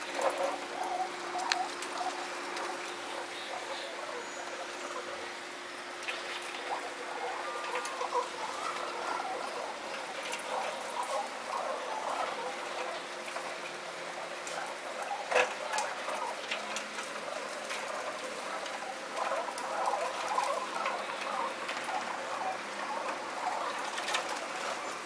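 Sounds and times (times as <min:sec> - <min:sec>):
pigeons pecking on tiles: 0:00.0 - 0:05.3, 0:06.0 - 0:25.0.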